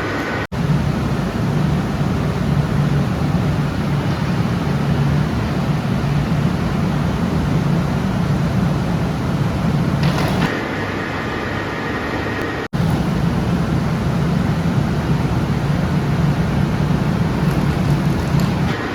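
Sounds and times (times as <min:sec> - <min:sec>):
factory machinery hum: 0:00.0 - 0:18.9.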